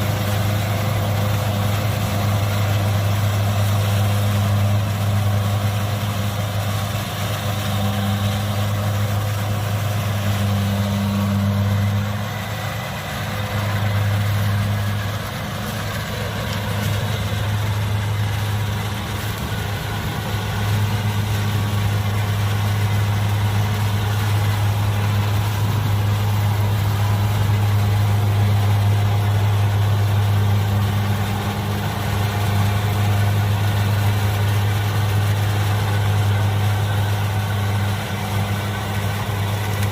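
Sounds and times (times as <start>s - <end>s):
diesel engine deep hum: 0.0s - 39.9s.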